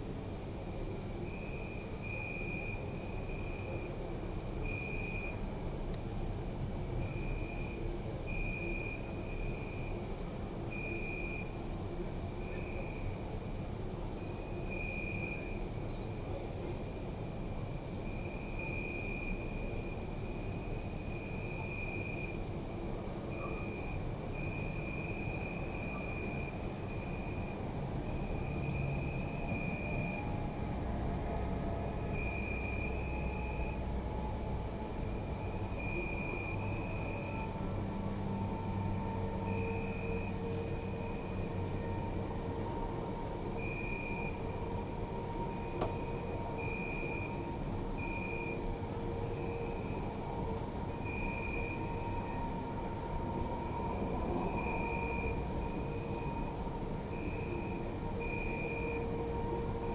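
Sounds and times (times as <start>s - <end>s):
high-pitched cricket trill: 0.0s - 59.9s
lower cricket chirp: 0.0s - 59.9s.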